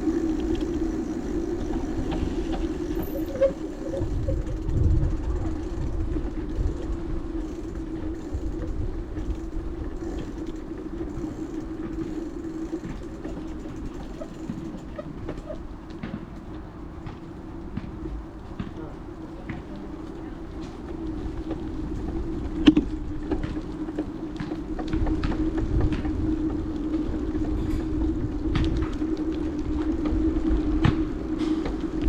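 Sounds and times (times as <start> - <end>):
bicycle tyres rolling on road: 0.0 - 32.0
wind buffeting microphone: 0.0 - 32.0.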